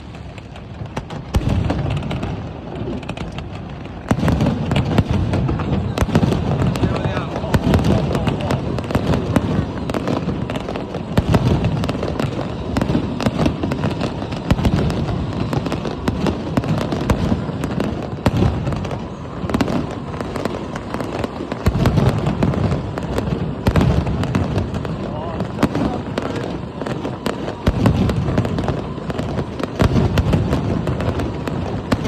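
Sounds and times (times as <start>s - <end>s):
fireworks bangs and pops: 0.0s - 32.0s.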